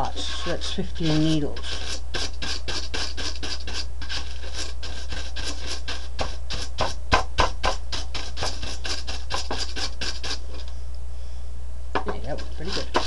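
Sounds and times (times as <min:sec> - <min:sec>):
scrub brush scrubbing plastic: 0:00.0 - 0:10.7, 0:12.2 - 0:13.0
low steady hum: 0:00.0 - 0:13.0.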